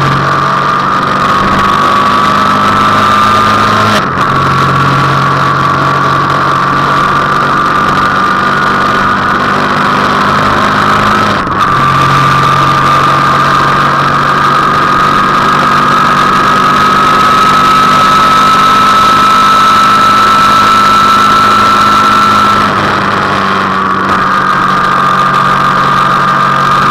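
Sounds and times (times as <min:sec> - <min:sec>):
motorcycle engine whining: 0:00.0 - 0:26.9
wind rush: 0:00.0 - 0:26.9.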